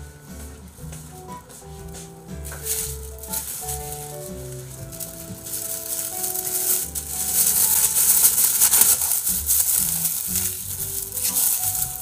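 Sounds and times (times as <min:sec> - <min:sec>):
soft background music: 0:00.0 - 0:12.0
plastic glove crinkling: 0:00.4 - 0:12.0.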